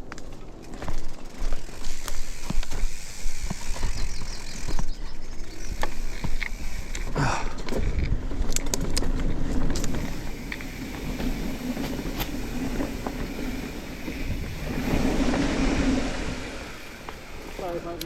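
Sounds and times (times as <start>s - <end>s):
bike clicks and knocks: 0.0s - 15.4s
bike tyres rolling on dirt: 0.0s - 18.0s.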